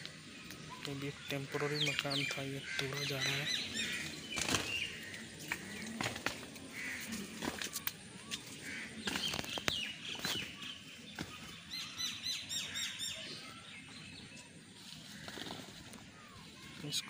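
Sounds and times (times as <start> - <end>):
bird chirping: 0.0 - 14.6.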